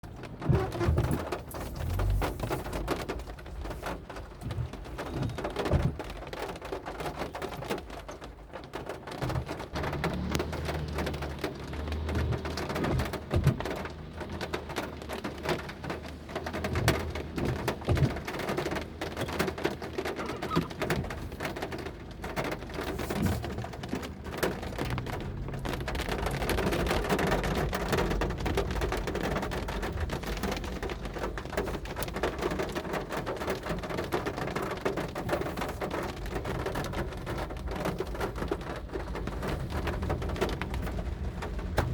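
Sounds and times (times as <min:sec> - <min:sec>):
heavy rain on hard surfaces: 0:00.0 - 0:41.9.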